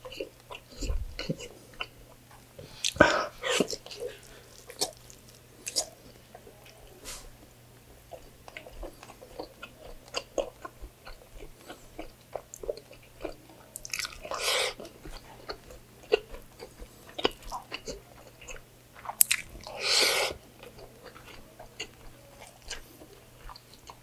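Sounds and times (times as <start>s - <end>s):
chewing food: 0.0s - 7.0s, 7.8s - 24.0s.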